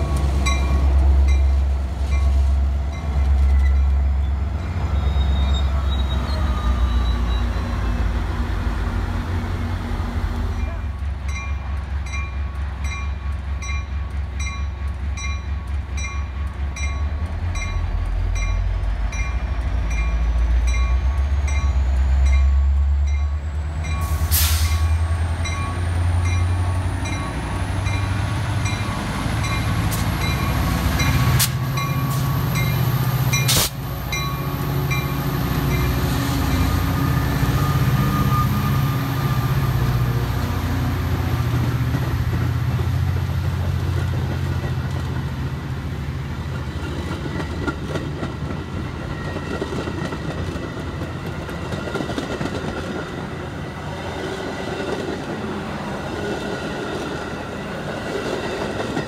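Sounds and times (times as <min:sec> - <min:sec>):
diesel locomotive rumble: 0:00.0 - 0:59.0.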